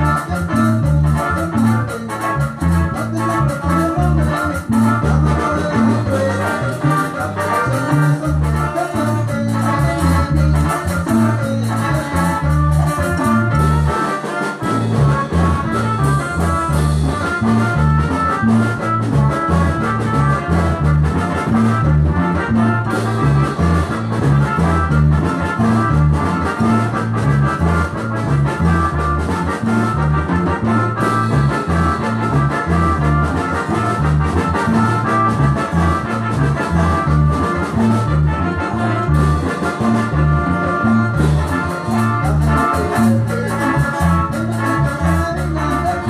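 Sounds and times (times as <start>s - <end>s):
brass melody: 0.0s - 46.0s
repeating bass line: 0.0s - 46.0s.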